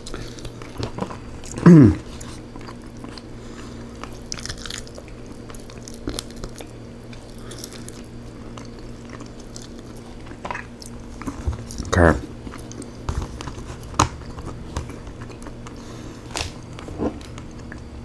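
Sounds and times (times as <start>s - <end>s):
faint steady hum: 0.0s - 18.0s
person chewing chicken: 0.0s - 18.0s.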